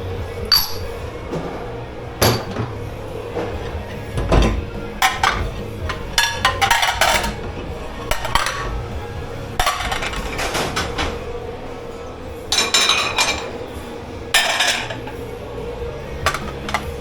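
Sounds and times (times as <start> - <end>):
steady low hum: 0.0 - 17.0
dishes and cutlery clattering: 0.4 - 11.4, 12.4 - 15.3, 16.2 - 17.0.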